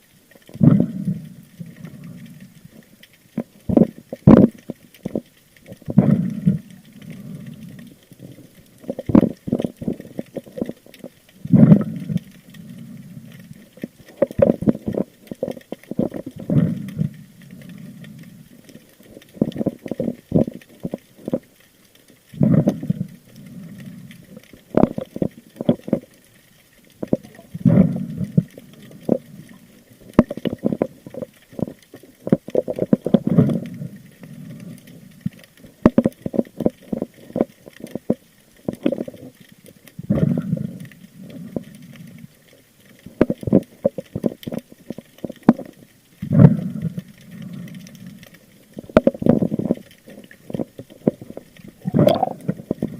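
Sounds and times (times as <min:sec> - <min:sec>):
underwater surges of water: 0:00.0 - 0:52.9.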